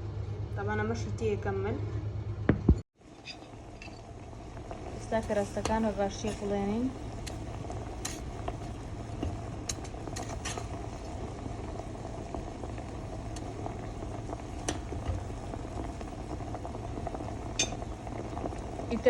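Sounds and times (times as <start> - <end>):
pot of tea boiling: 3.0 - 19.0.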